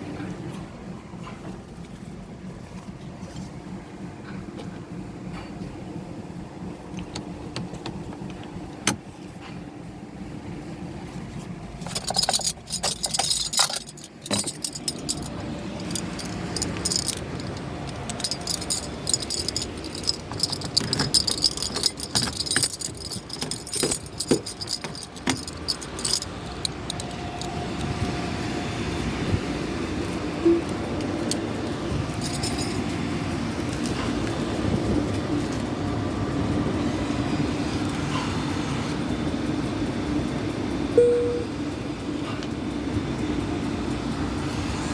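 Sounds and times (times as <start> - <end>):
car wash machinery hum: 0.0 - 44.9.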